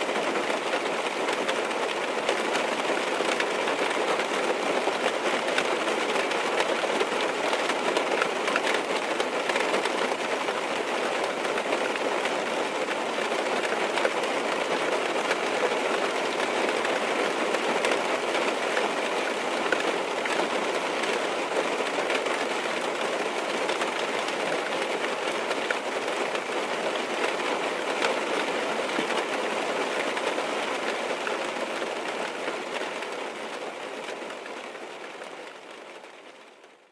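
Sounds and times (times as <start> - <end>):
rain drumming on car roof: 0.0 - 36.8.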